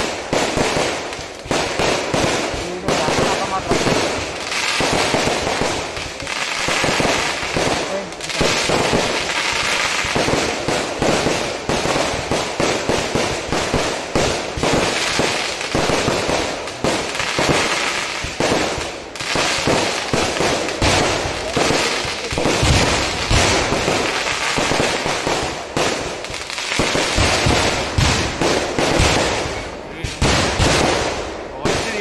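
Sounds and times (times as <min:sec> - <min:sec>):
deep fireworks booms: 0:00.0 - 0:32.0
fireworks bangs and crackles: 0:00.0 - 0:32.0.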